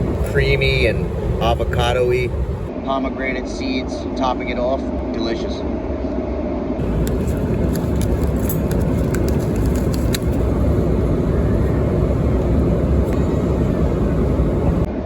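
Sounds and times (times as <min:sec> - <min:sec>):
airliner engine roar: 0:00.0 - 0:15.0.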